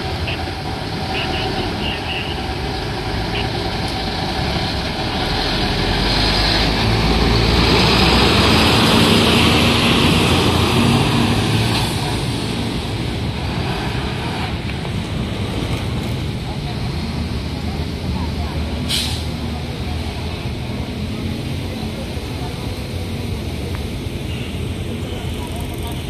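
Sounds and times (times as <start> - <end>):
fire truck engine rumble: 0.0 - 26.0.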